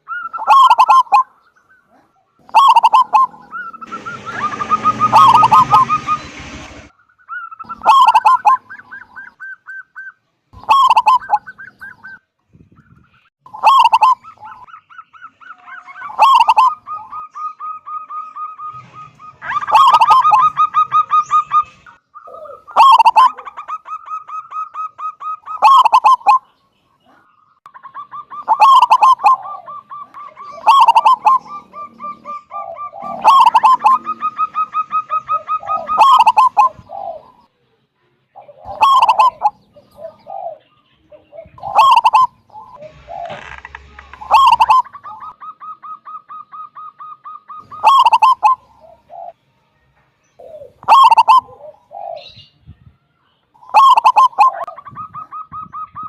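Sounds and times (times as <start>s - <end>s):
dove cooing: 0.0s - 12.2s, 13.5s - 26.4s, 27.0s - 37.5s, 38.4s - 49.4s, 50.4s - 52.6s, 53.6s - 56.0s.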